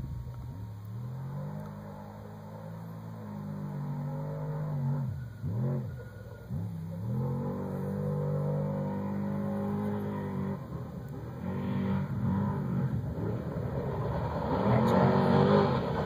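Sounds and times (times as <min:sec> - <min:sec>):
distant engine revving: 0:00.0 - 0:16.0.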